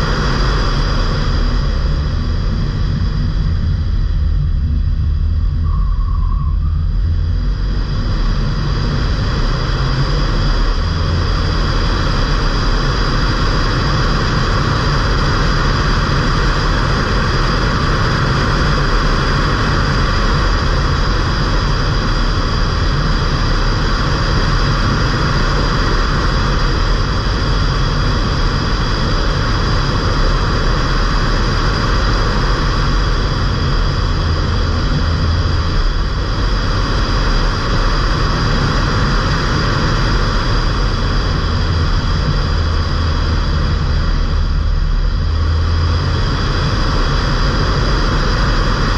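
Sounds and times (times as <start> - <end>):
diesel car engine cruising: 0.0 - 48.9
steady high whine: 0.0 - 48.9
tyre and road noise: 0.0 - 48.9.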